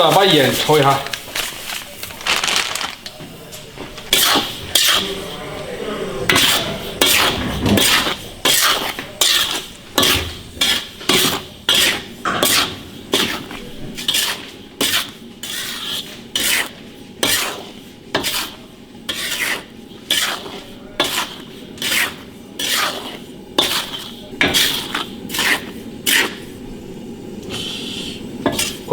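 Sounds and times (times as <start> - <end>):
spatula scraping salt in wok: 4.1 - 5.3, 6.3 - 28.9.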